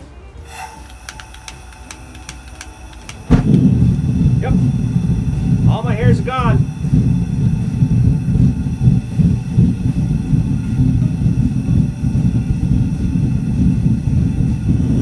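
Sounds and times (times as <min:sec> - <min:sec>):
gas forge burner rumbling: 0:00.0 - 0:15.0.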